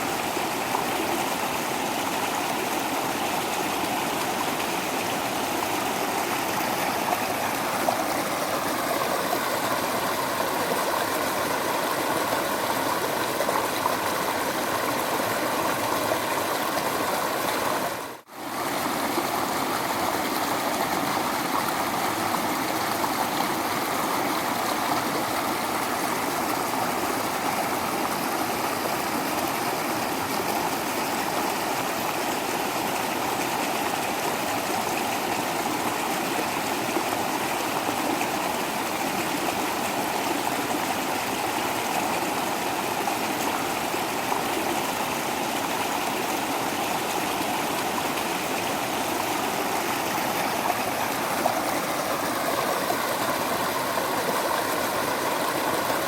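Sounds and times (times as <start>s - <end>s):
water falling and rushing: 0.0s - 56.0s.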